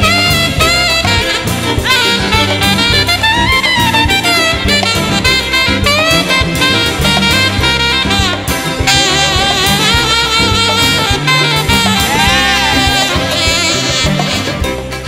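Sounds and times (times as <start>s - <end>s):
folk band playing: 0.0s - 15.0s
hand percussion: 0.0s - 15.0s
reed instrument melody: 0.0s - 15.0s.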